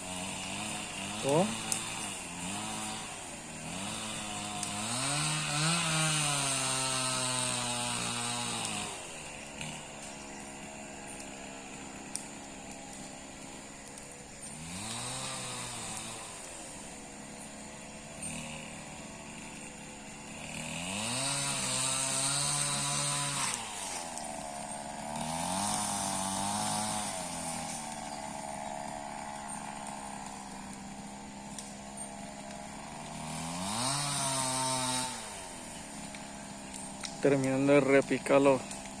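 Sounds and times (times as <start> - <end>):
chainsaw idling and revving: 0.0 - 39.0.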